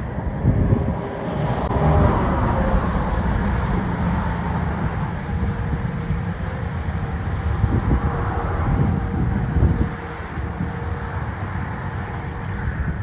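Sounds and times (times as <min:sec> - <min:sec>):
road traffic: 0:00.0 - 0:13.0
wind buffeting microphone: 0:00.0 - 0:13.0.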